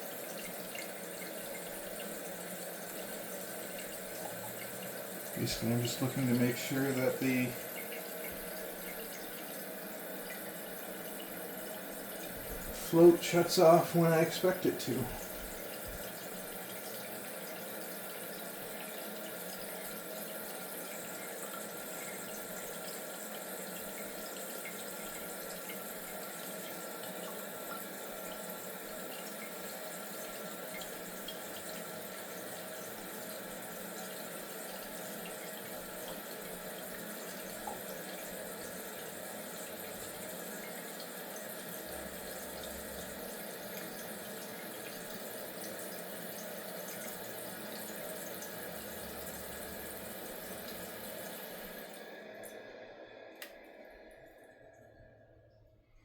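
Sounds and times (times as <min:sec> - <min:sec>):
toilet tank refilling: 0:00.0 - 0:54.9.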